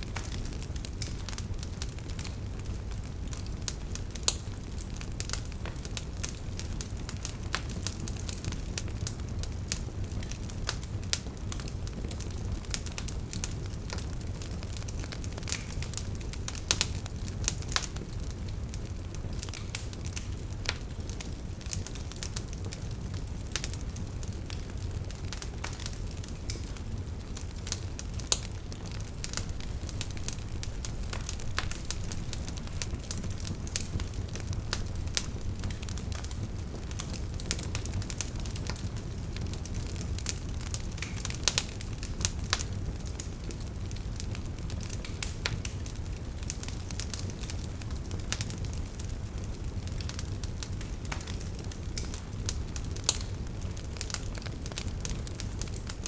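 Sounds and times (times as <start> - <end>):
campfire crackling and popping: 0.0 - 56.0
low roar of flames: 0.0 - 56.0.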